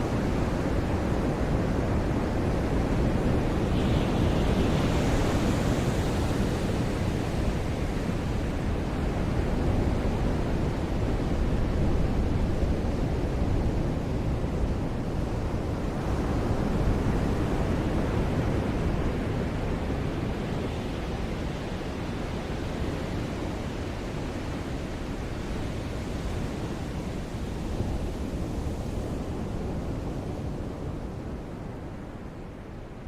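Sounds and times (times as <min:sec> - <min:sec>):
ocean waves washing onto beach: 0:00.0 - 0:33.0.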